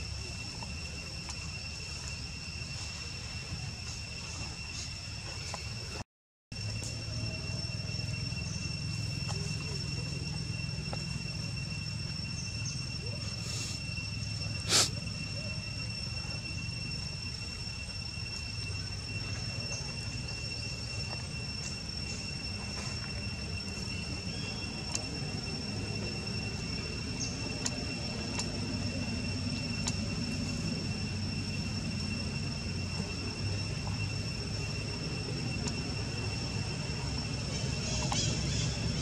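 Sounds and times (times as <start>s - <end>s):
high-pitched two-tone whine: 0.0s - 39.0s
low hum: 6.6s - 39.0s.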